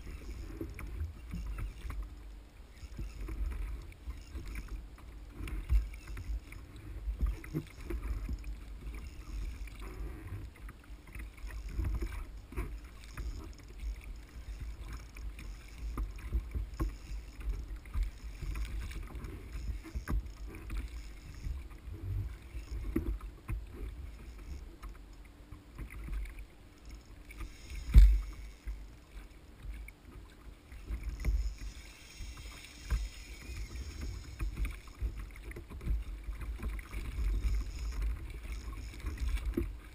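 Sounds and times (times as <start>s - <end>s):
water sloshing against kayak hull: 0.0s - 39.9s.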